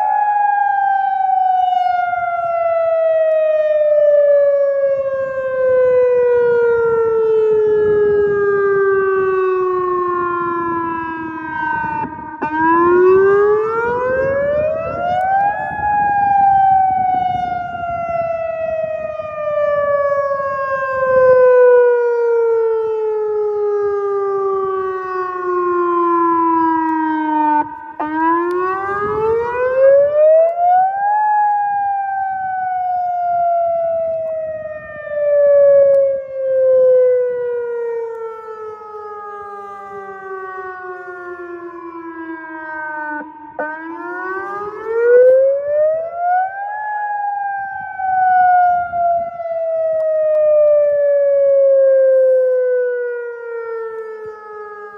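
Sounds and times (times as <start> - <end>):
warning siren wailing: 0.0 - 54.9.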